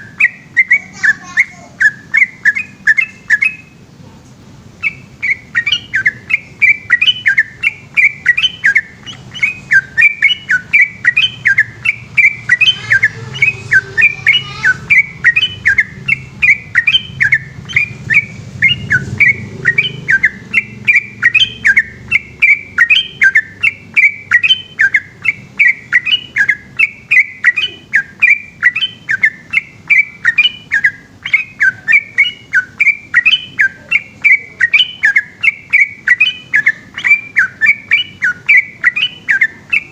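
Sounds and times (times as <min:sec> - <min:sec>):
bird singing quick whistled notes: 0:04.8 - 0:39.9.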